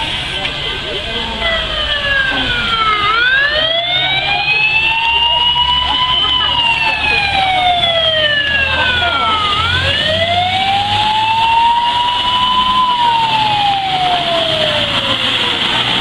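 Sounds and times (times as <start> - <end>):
fire truck siren wailing: 0.0 - 16.0
low engine rumble: 0.0 - 16.0.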